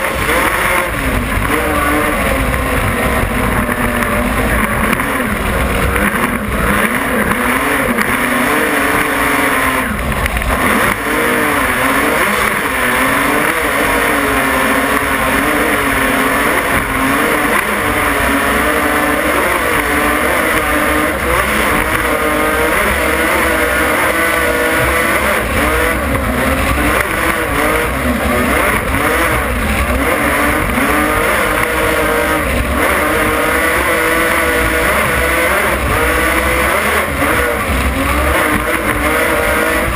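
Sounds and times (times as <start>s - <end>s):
powerboat engines roaring: 0.0s - 39.9s.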